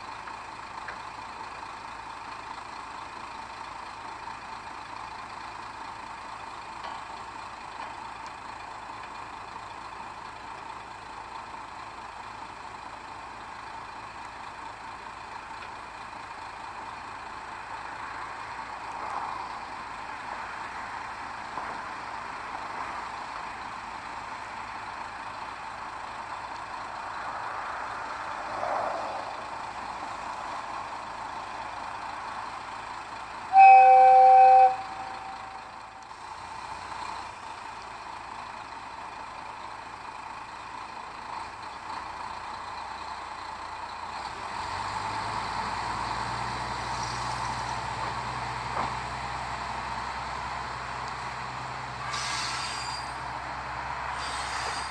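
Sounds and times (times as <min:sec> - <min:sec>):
diesel railcar running: 0:00.0 - 0:54.9.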